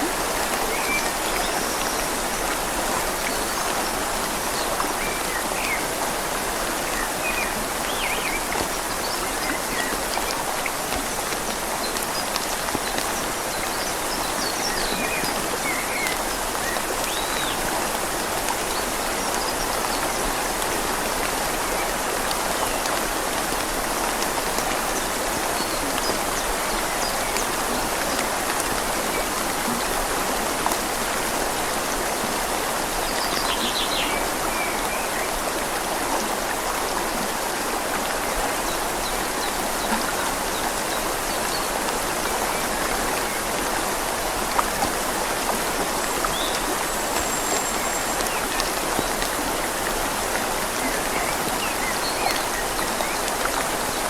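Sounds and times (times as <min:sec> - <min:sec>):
flowing river: 0:00.0 - 0:54.0
rain falling on leaves: 0:00.0 - 0:54.0.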